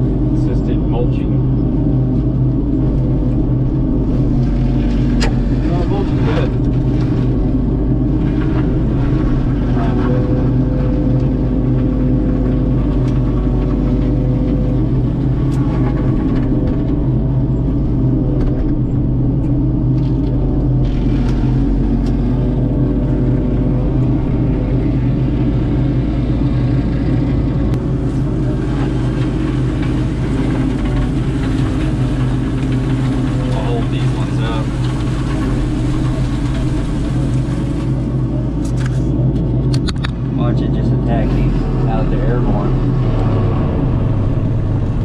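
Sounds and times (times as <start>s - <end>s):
excavator diesel engine running: 0.0s - 45.0s
hydraulics whine: 0.0s - 45.0s.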